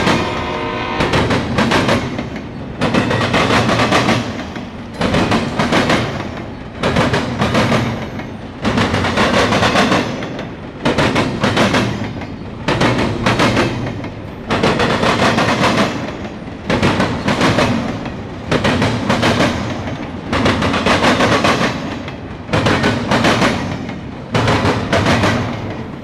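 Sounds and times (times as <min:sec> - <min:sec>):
freight train passing: 0:00.0 - 0:26.0
train wheels clacking over track: 0:00.0 - 0:26.0.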